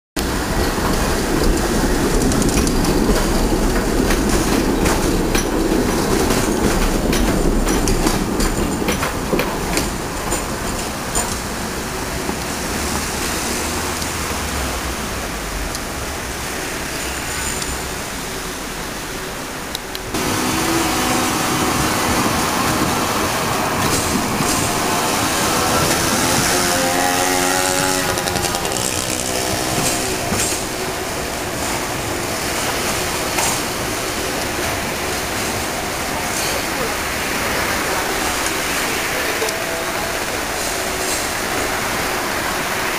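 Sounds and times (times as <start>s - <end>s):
tram wheels rumbling over rails: 0.2s - 42.9s
tram whine: 0.2s - 42.9s.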